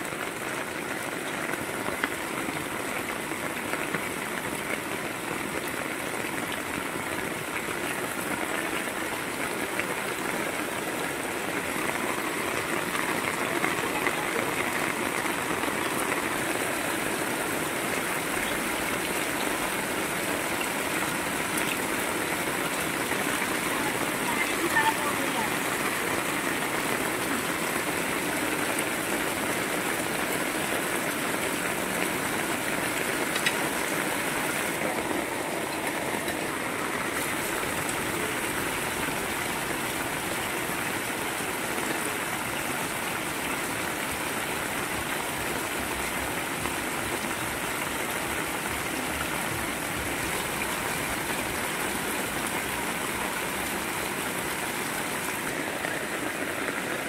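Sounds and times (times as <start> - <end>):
heavy rain falling: 0.0 - 57.0
water pouring off roof: 0.0 - 57.0.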